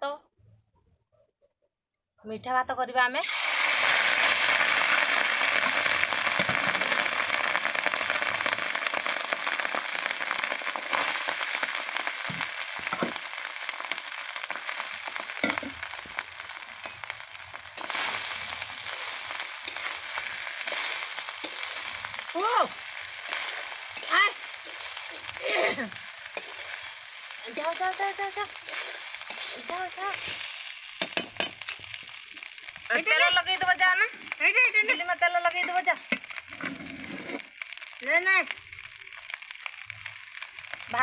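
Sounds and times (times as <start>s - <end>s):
rice sizzling in hot oil: 3.2s - 41.0s.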